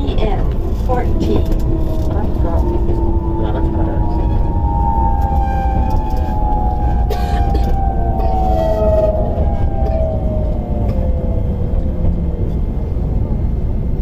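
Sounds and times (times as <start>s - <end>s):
wheels rumbling on rails: 0.0s - 14.0s
electric train motors whining: 0.3s - 13.0s.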